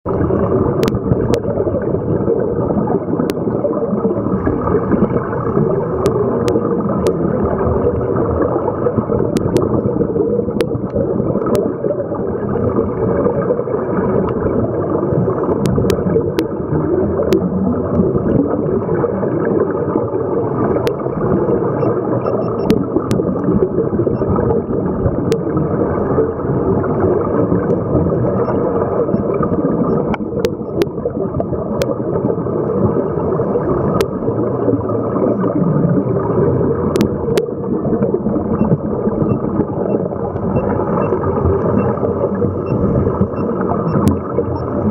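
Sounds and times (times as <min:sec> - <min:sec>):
regulator bubbles underwater: 0:00.0 - 0:44.9.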